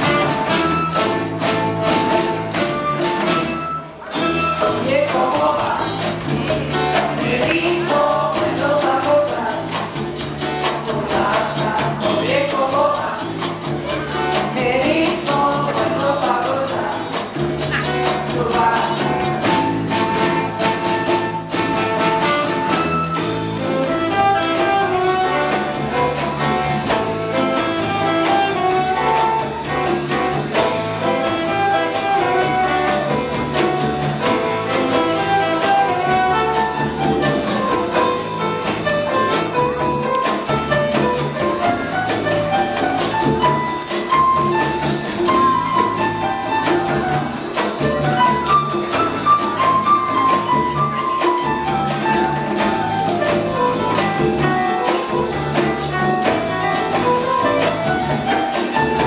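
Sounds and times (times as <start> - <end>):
drum kit: 0.0 - 59.0
electric bass: 0.0 - 59.0
hand drums: 0.0 - 59.0
piano: 0.0 - 59.0.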